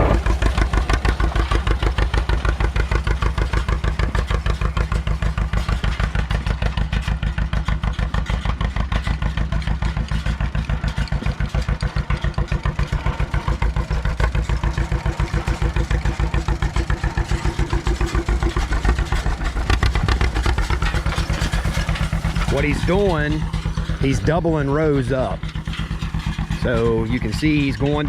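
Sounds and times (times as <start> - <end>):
tractor engine chugging: 0.0 - 28.0.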